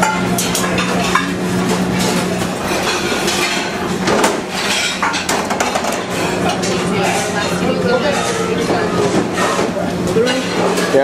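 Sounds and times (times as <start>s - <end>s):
plates pans and utensils clattering: 0.0s - 11.0s.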